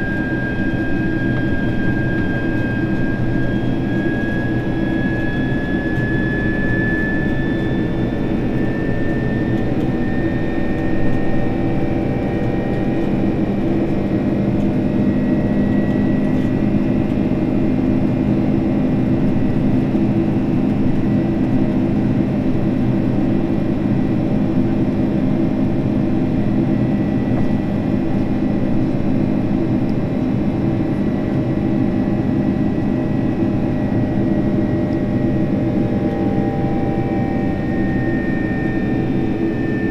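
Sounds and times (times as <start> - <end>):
jet engine drone: 0.0 - 39.9.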